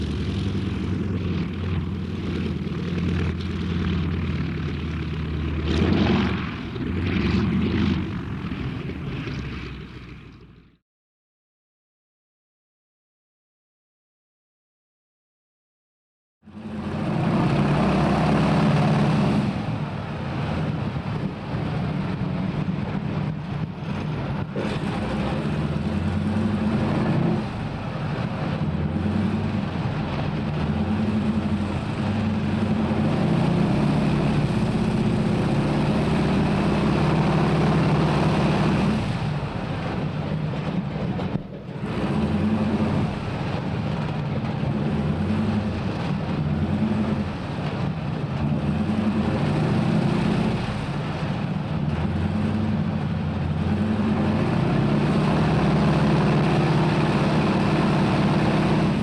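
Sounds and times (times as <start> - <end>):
radial aircraft engine rumbling: 0.0 - 10.8, 16.4 - 59.0.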